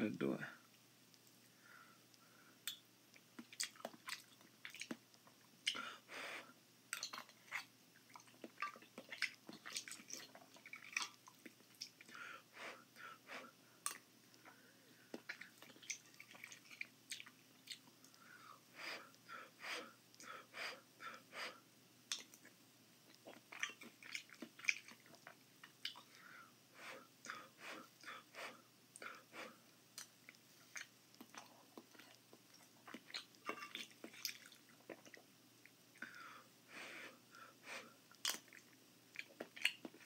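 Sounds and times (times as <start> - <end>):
man chewing food: 1.1 - 36.4, 37.2 - 40.0.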